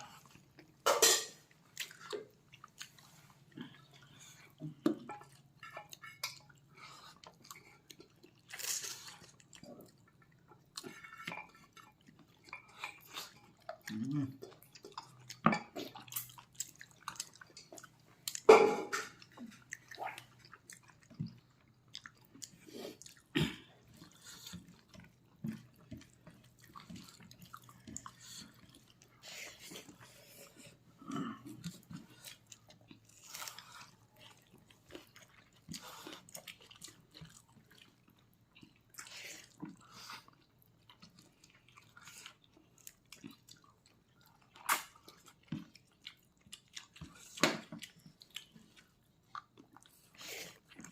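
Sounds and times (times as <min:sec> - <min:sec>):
close chewing mouth sounds: 0:00.0 - 0:50.9.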